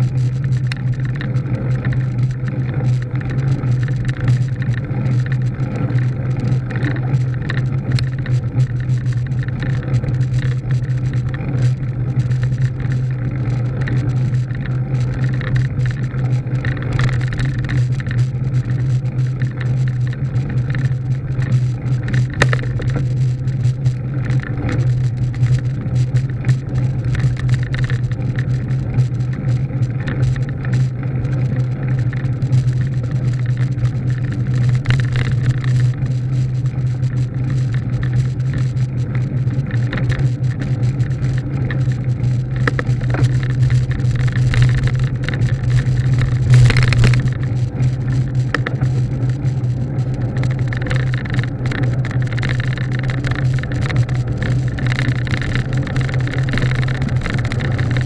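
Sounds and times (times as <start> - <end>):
road and wind noise: 0.0 - 58.0
vehicle engine hum: 0.0 - 58.0.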